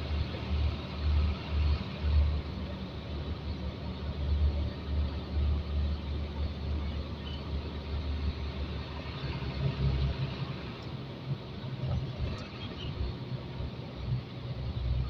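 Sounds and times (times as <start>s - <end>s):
road and cab noise: 0.0s - 15.0s
truck diesel engine droning: 0.0s - 15.0s.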